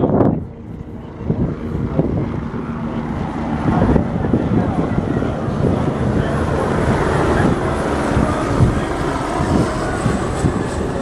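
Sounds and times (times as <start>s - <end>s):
helicopter flying past: 0.0s - 11.0s.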